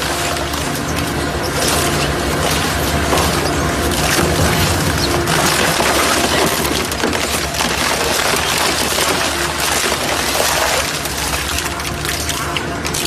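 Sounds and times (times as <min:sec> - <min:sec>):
low machine hum: 0:00.0 - 0:13.0
material cracking and crunching: 0:00.2 - 0:12.2.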